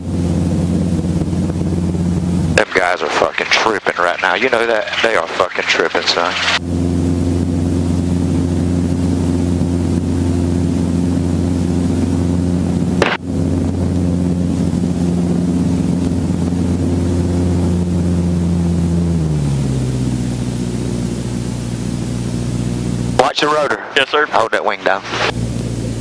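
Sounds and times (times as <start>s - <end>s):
helicopter engine and rotor running: 0.0s - 26.0s.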